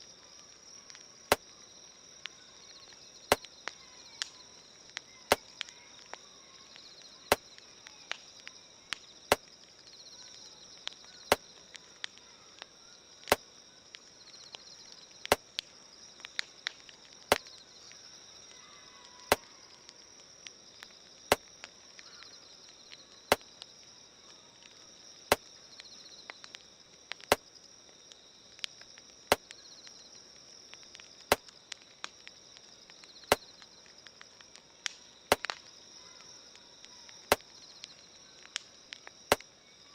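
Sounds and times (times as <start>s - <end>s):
campfire crackling and popping: 0.0s - 39.9s
insects chirring: 0.0s - 39.9s.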